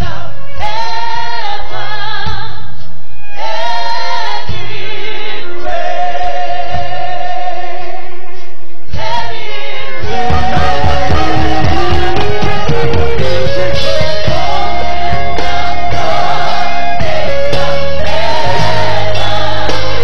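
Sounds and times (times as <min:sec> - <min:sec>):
band with bass line: 0:00.0 - 0:20.0
gospel singers holding long notes: 0:00.0 - 0:20.0.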